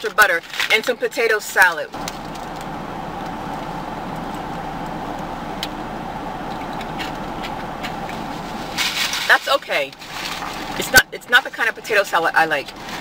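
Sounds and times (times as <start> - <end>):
constant hiss: 1.5 - 13.0
steady hum: 1.9 - 13.0.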